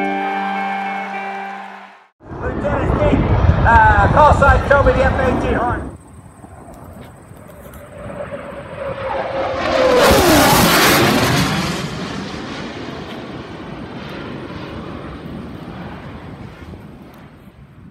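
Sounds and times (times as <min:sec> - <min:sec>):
jet roaring past: 0:02.2 - 0:17.9.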